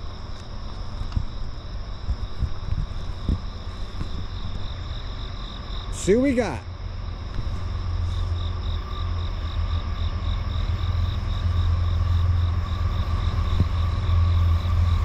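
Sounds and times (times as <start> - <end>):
diesel locomotive rumble: 0.0 - 15.0
insects chirping: 0.0 - 15.0.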